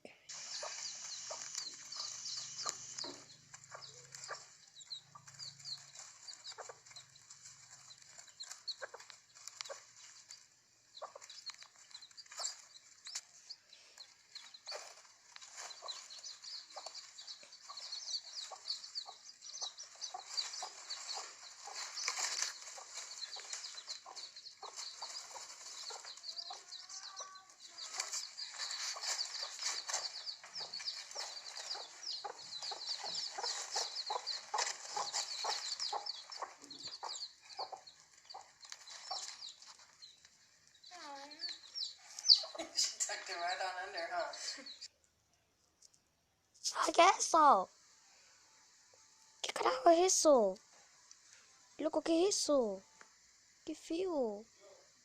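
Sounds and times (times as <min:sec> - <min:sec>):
chickens peeping and clucking: 0:00.3 - 0:44.9.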